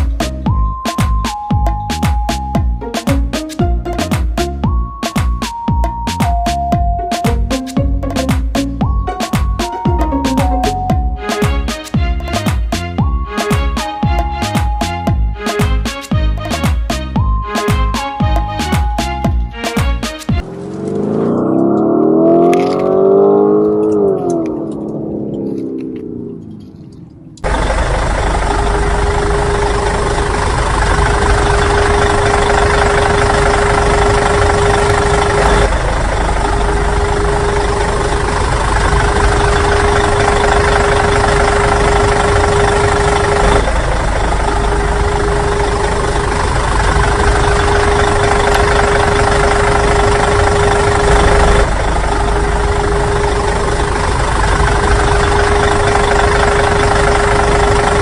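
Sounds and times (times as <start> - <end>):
engine idling rumble: 0.0 - 19.6, 22.7 - 58.0.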